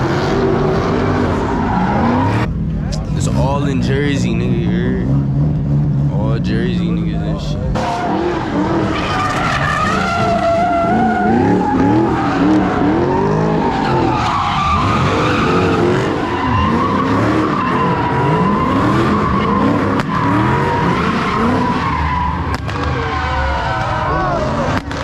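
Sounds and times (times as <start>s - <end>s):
car engine revving: 0.0s - 25.0s
tires squealing: 0.0s - 25.0s.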